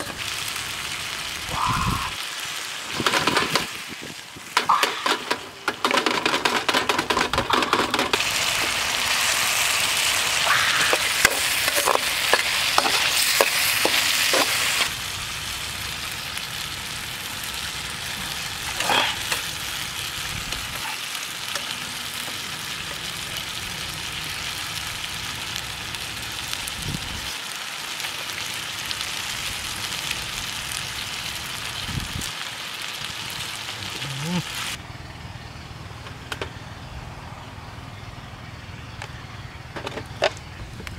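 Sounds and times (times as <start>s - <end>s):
food sizzling in a wok: 0.0s - 6.4s, 8.1s - 34.8s.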